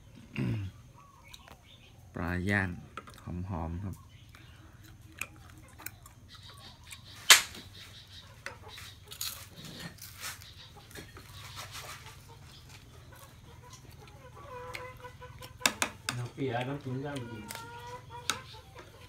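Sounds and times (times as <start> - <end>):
eating from a plastic plate: 0.0 - 7.2, 8.3 - 19.0.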